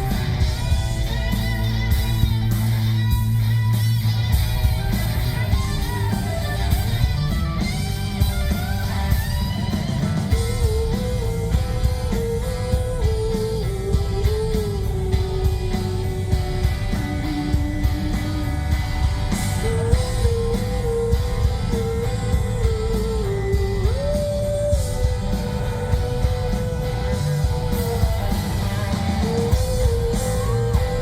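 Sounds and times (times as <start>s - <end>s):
bass guitar: 0.0s - 31.0s
electric guitar melody: 0.0s - 31.0s
steady drum beat: 0.0s - 31.0s.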